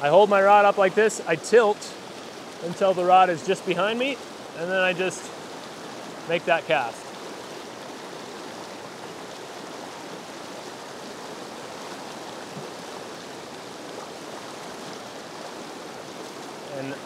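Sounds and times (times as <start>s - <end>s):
river water over rocks: 0.0s - 17.0s.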